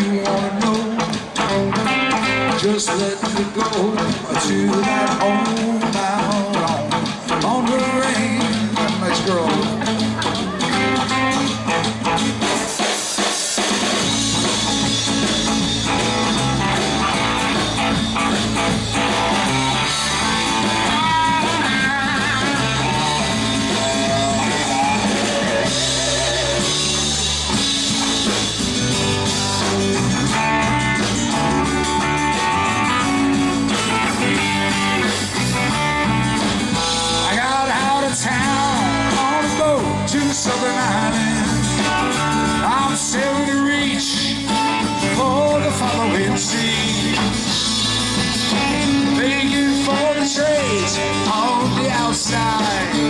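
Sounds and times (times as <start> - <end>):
guitar: 0.0 - 53.0
live band playing: 0.0 - 53.0.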